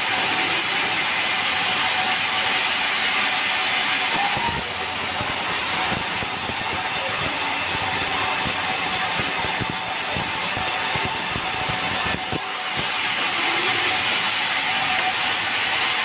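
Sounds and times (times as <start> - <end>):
bandsaw running: 0.0 - 16.0.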